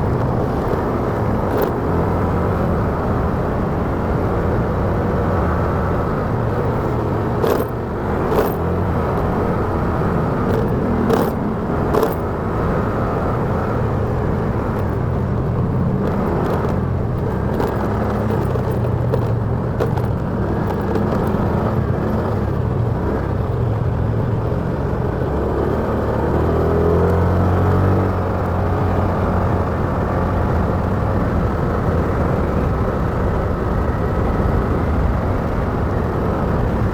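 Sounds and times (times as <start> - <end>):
motorcycle engine running: 0.0 - 36.9
road and wind noise: 0.0 - 36.9.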